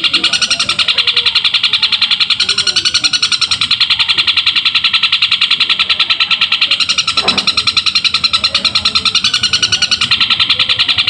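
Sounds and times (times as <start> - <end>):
bird singing rapid high chirps: 0.0 - 11.0.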